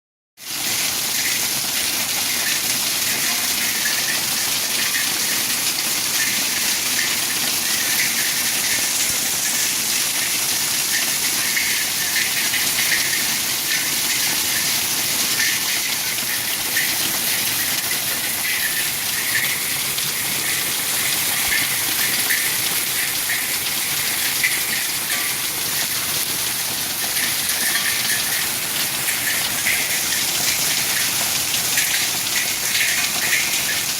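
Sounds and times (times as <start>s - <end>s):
hail pelting down: 0.5s - 33.9s.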